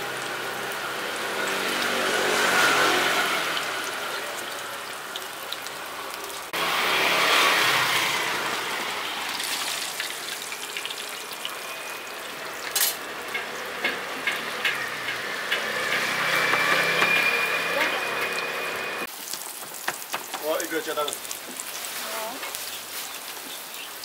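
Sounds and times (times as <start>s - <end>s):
oil sizzling as dough fries: 0.0s - 24.0s.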